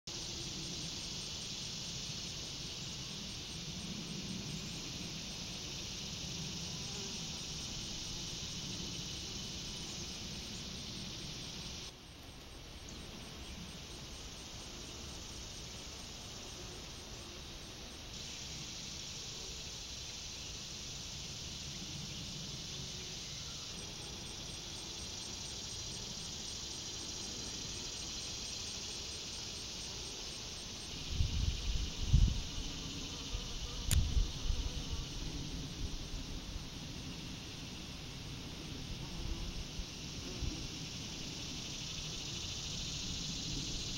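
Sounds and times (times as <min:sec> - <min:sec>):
insects chirping: 0:00.1 - 0:43.9.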